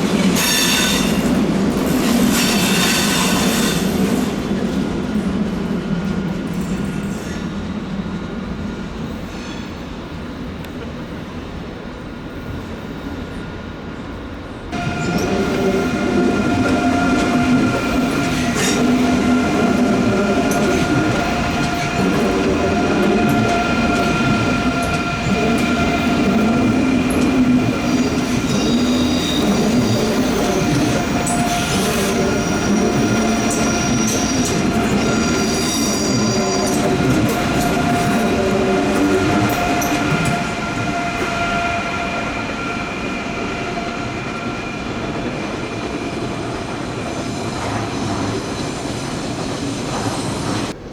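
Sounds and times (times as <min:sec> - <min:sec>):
train wheels squealing on rails: 0:00.0 - 0:04.7, 0:06.0 - 0:11.6, 0:12.2 - 0:50.8
train wheels rumbling: 0:00.0 - 0:11.2, 0:14.5 - 0:50.9.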